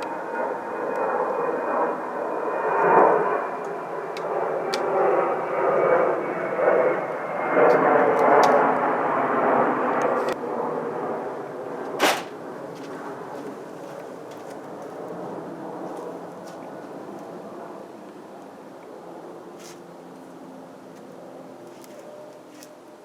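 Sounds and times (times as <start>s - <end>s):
airplane flying over: 0.0s - 23.0s.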